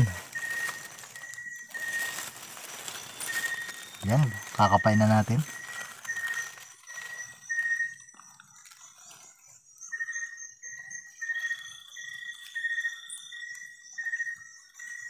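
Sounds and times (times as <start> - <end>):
thin high-pitched trill: 0.0 - 15.0.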